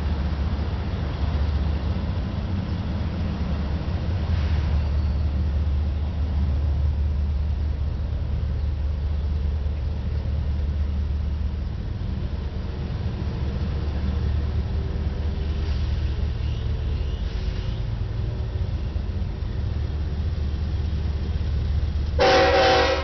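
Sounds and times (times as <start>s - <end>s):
diesel locomotive rumble: 0.0s - 23.0s
faint engine drone: 0.0s - 23.0s
road traffic passing: 0.0s - 23.0s.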